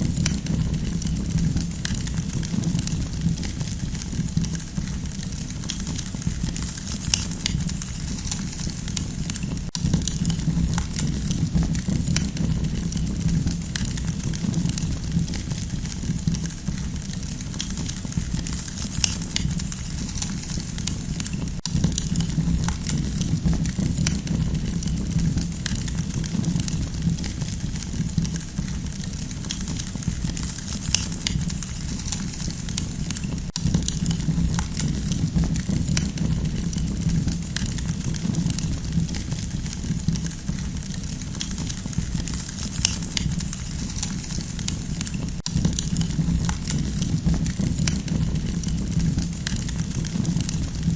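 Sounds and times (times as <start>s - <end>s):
campfire crackling and popping: 0.0s - 50.9s
low rumble of flames: 0.0s - 50.9s.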